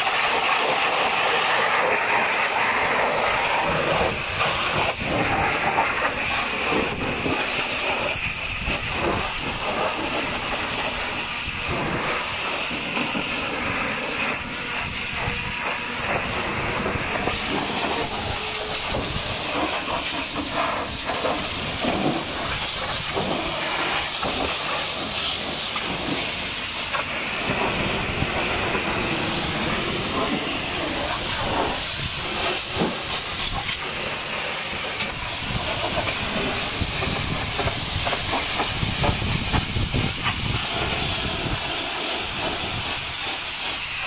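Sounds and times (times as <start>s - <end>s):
pressure washer jet hissing: 0.0s - 44.0s.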